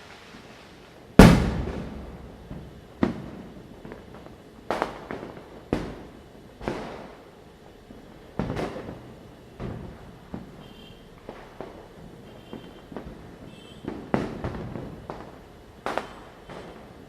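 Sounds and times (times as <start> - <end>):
firecrackers banging: 1.1 - 7.3, 8.0 - 17.0.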